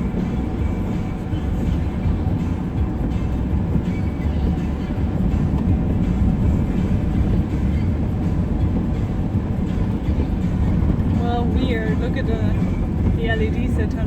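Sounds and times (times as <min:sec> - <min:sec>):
car tyres and engine rumble: 0:00.0 - 0:14.0.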